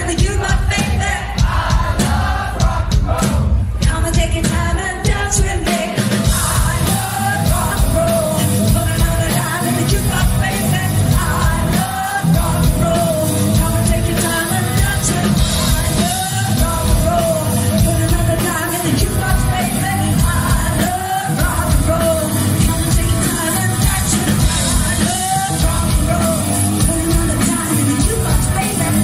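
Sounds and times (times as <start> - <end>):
woman singing into microphone: 0.0 - 1.3, 3.8 - 29.0
loud amplified pop-rock music: 0.0 - 29.0.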